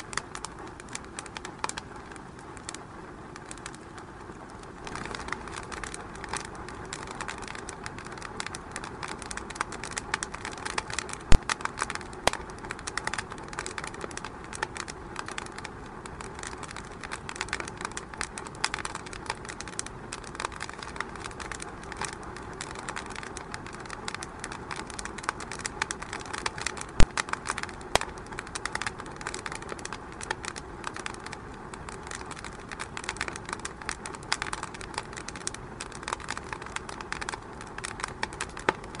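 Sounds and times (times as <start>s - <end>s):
fire crackling in a fireplace: 0.0s - 39.0s
loud fire pops: 0.0s - 39.0s.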